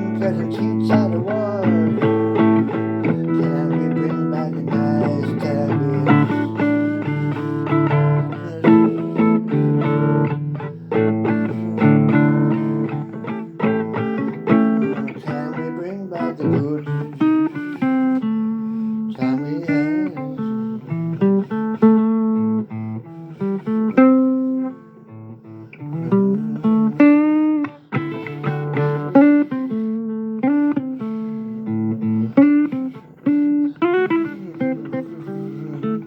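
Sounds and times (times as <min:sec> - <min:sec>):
blues guitar playing: 0:00.0 - 0:36.0.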